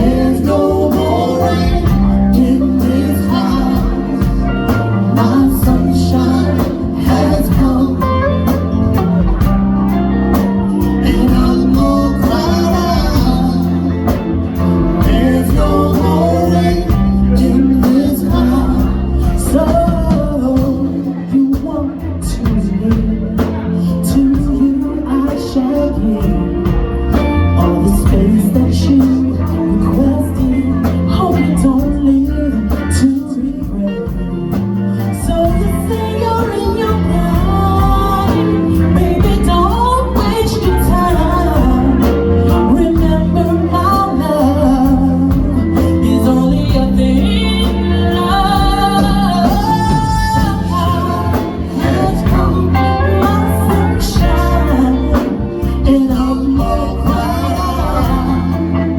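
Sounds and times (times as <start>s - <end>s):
live band playing soul blues: 0.0s - 58.9s
woman singing: 0.0s - 58.9s.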